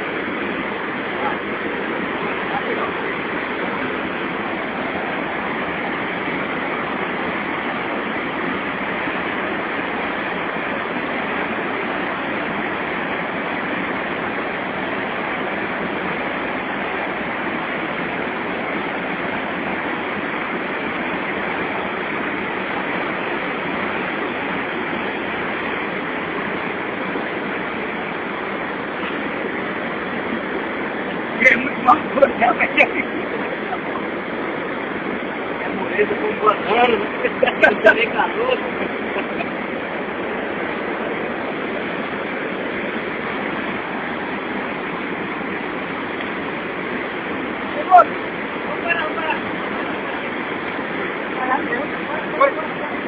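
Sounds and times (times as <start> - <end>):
water rushing through rapids: 0.0 - 53.0.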